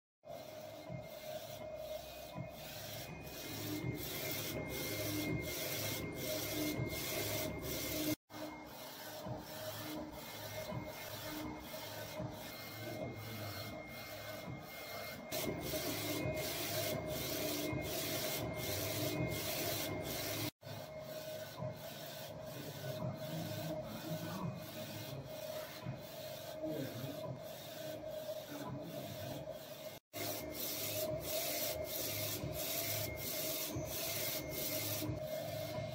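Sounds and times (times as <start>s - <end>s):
printer motor hum: 0.3s - 35.9s.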